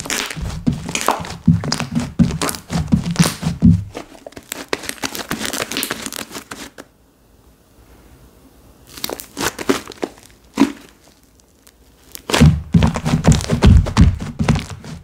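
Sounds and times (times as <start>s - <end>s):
slime squeezed by hand: 0.0s - 6.8s, 8.9s - 15.0s.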